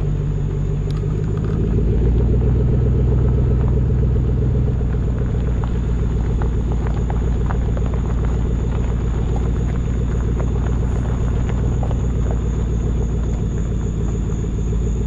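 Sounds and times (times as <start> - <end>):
pickup engine and exhaust drone: 0.0 - 15.0
road rumble: 0.0 - 15.0.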